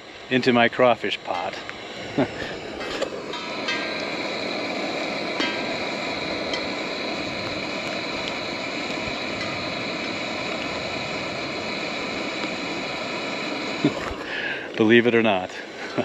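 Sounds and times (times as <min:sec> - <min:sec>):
hailstones ticking: 0:00.0 - 0:16.0
rain hissing: 0:00.0 - 0:16.0.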